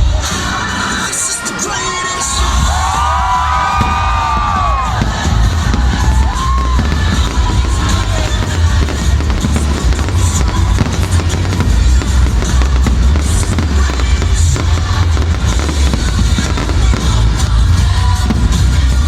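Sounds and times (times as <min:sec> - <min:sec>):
fireworks bursting: 0:00.0 - 0:19.0
loud music with heavy bass: 0:00.0 - 0:19.0.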